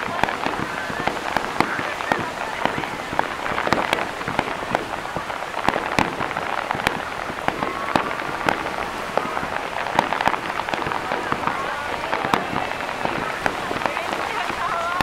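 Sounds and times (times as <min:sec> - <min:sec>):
fireworks crackling: 0:00.0 - 0:15.0
fireworks popping: 0:00.0 - 0:15.0.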